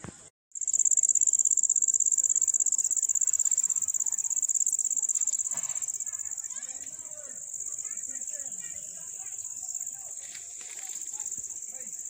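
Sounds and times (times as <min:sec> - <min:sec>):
insect trilling: 0:00.6 - 0:12.0.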